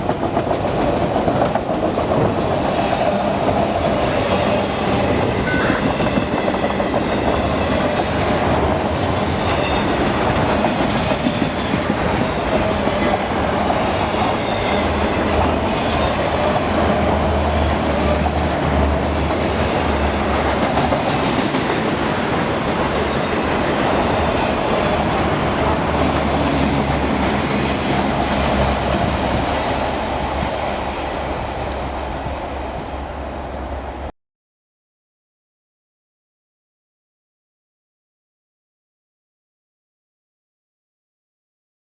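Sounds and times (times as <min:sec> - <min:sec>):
train wheels clattering over rails: 0:00.0 - 0:34.1.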